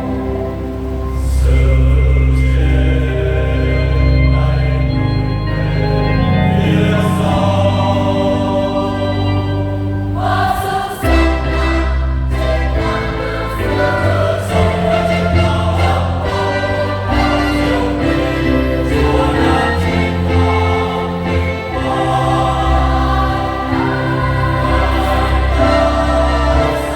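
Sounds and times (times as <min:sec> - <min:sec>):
choir singing a hymn: 0:00.0 - 0:26.9
instrumental accompaniment with bass: 0:00.0 - 0:26.9.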